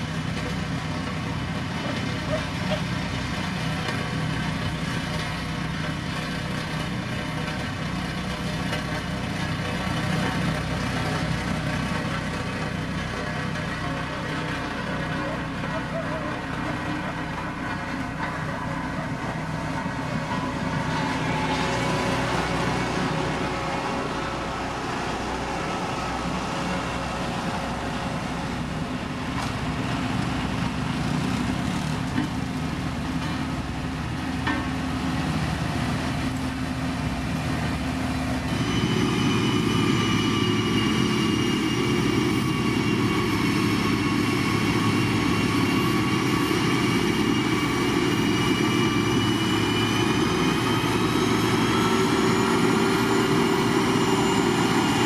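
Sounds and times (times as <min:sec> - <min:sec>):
diesel construction machinery running: 0:00.0 - 0:55.0.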